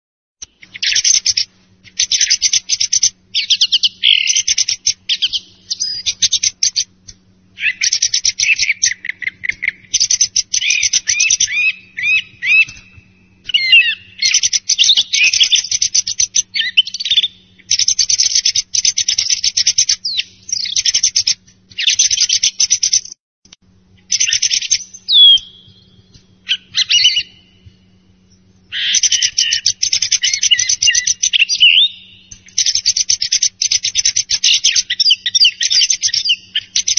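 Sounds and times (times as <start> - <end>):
song thrush singing: 0.4 - 23.1, 23.9 - 36.9.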